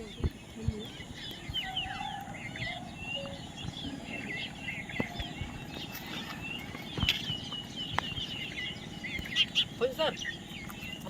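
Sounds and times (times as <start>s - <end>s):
parrots chirping: 0.0s - 11.0s.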